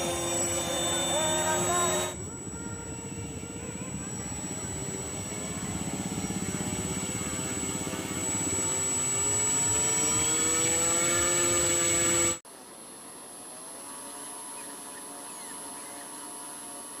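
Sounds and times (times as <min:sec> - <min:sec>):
electric motor whine: 0:00.0 - 0:17.0
steady hum: 0:00.0 - 0:17.0.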